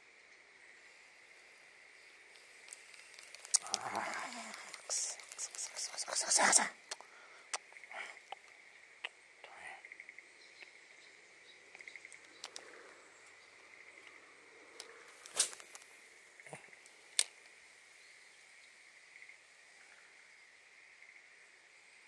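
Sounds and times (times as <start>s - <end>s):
insects chirping in trills: 0.0s - 22.0s.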